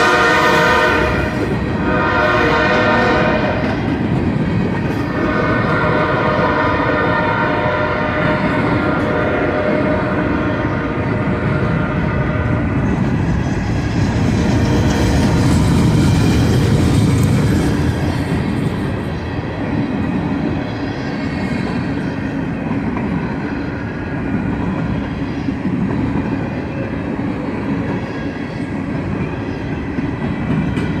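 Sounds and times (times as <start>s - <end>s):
freight train wheels clattering: 0.0s - 7.2s, 8.0s - 31.0s.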